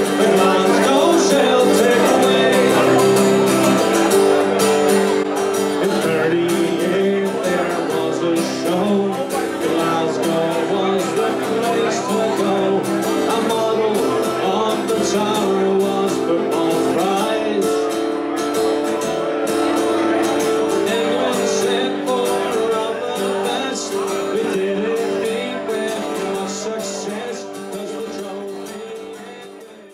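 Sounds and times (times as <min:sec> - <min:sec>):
person singing: 0:00.0 - 0:29.9
strummed acoustic guitar: 0:00.0 - 0:29.9.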